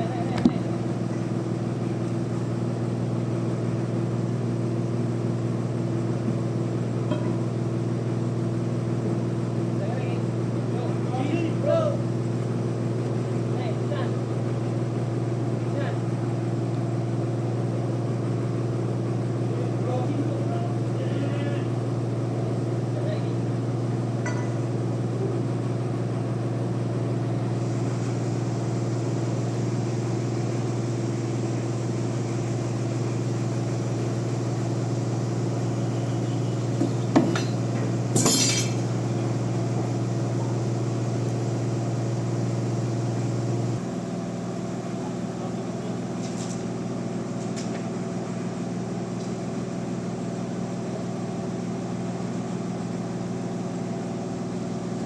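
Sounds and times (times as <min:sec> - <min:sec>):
sawmill machinery humming: 0:00.0 - 0:55.0.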